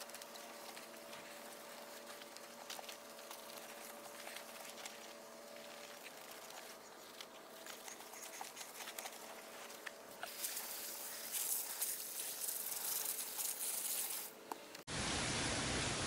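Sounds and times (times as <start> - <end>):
wash mitt wet rubbing: 0.0 - 14.3
small ticks: 0.0 - 14.8
suds fizzing crackle: 0.0 - 16.0.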